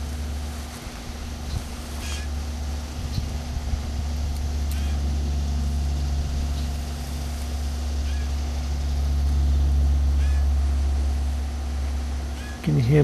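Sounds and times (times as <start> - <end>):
blue jay calls: 0.0 - 12.9
steady low hum: 0.0 - 13.0.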